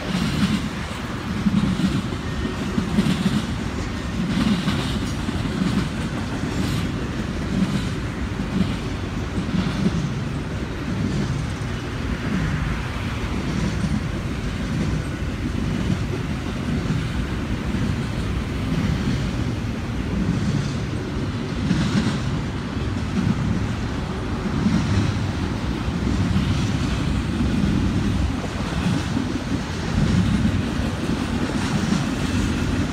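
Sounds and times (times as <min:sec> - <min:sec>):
freight train wheels rumbling: 0:00.0 - 0:32.9
wheels clicking on rail: 0:00.0 - 0:32.9.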